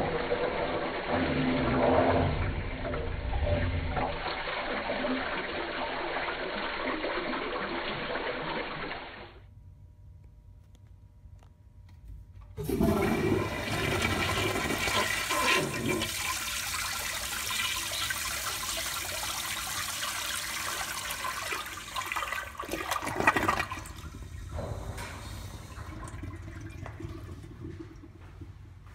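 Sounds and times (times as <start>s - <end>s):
toilet flushing: 0.0s - 9.5s, 12.6s - 28.9s.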